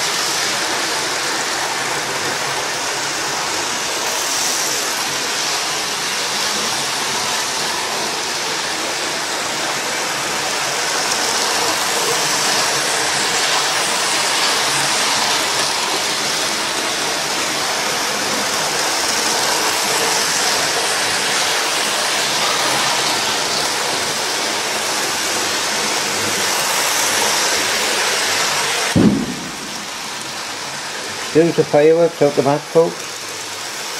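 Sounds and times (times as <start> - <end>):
model trains whirring on track: 0.0 - 29.0, 29.7 - 33.9.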